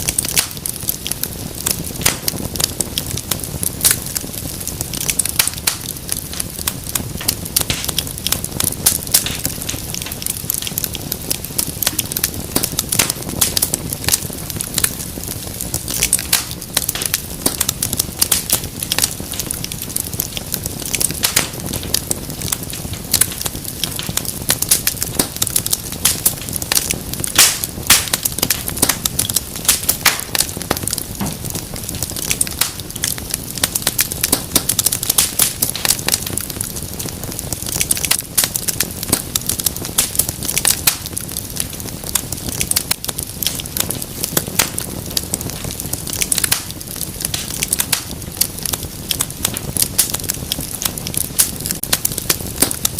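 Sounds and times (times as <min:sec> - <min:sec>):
low rush of flame: 0:00.0 - 0:52.9
wood fire crackling and popping: 0:00.0 - 0:52.9.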